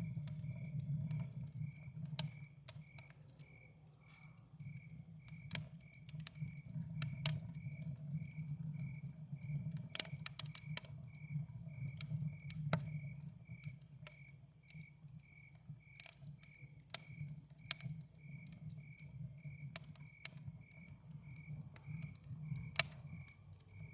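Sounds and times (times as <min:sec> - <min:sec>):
campfire crackling and popping: 0:00.0 - 0:23.9
cricket chirping: 0:00.0 - 0:23.9.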